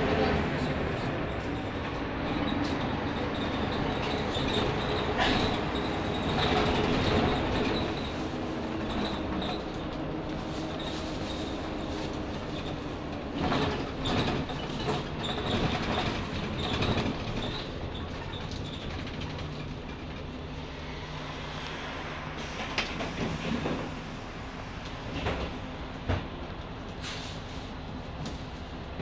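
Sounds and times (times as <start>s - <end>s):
bus diesel engine running: 0.0s - 29.0s.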